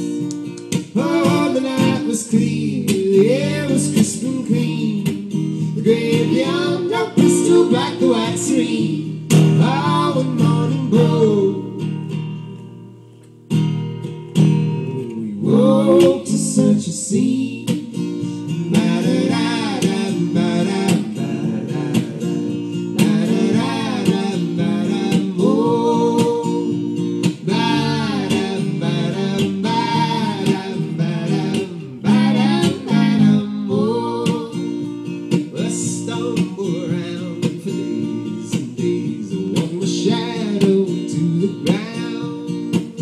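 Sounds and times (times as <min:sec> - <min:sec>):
strummed acoustic guitar: 0:00.0 - 0:43.0.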